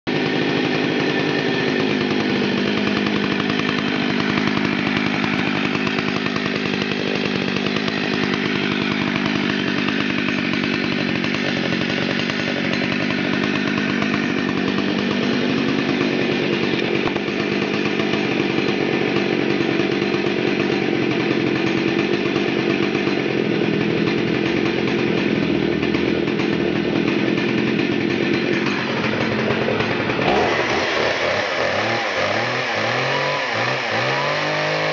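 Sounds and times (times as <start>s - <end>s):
chainsaw running: 0.1s - 34.9s.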